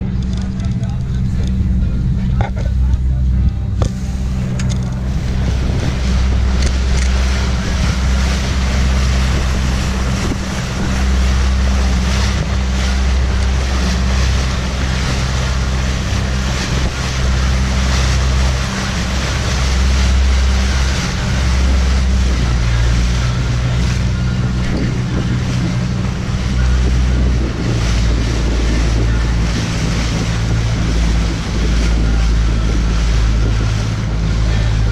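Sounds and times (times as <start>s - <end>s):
boat engine humming: 0.0s - 34.9s
water rushing past: 0.0s - 34.9s
wind buffeting microphone: 0.0s - 34.9s.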